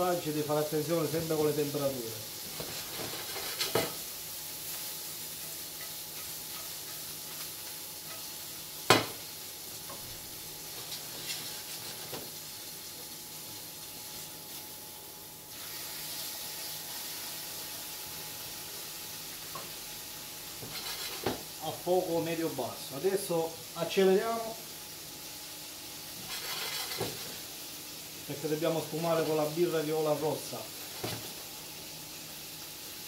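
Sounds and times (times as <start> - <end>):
mushrooms sizzling in a frying pan: 0.0 - 33.0.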